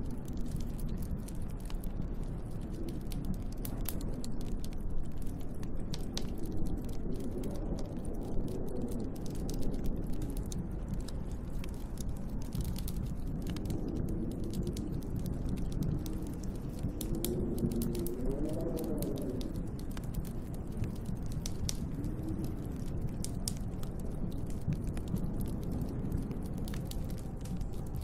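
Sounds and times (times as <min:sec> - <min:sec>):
wood fire crackling and popping: 0:00.0 - 0:28.0
storm wind rushing: 0:05.4 - 0:28.0.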